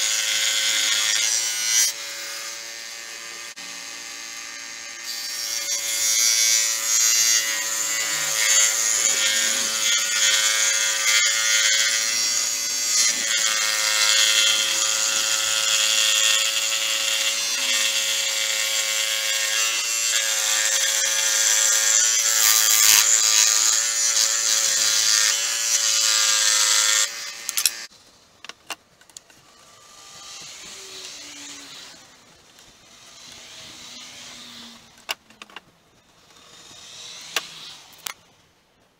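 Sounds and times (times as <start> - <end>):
power tool whining on steel: 0.0 - 27.9, 29.2 - 38.4.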